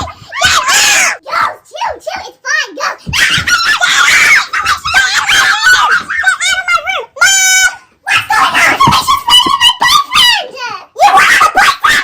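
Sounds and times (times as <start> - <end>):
girls screaming and yelling: 0.0 - 2.2, 2.8 - 12.0.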